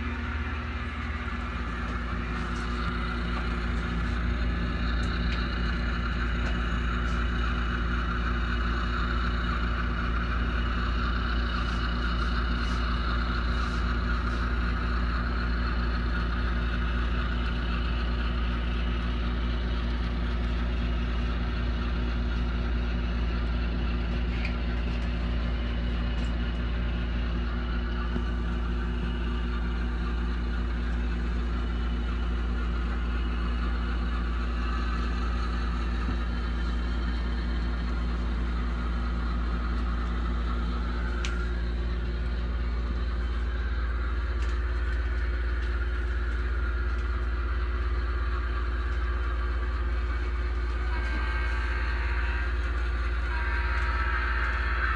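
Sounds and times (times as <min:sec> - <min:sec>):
model train engine drone: 0:00.0 - 0:54.9
model train running noise: 0:00.0 - 0:54.9.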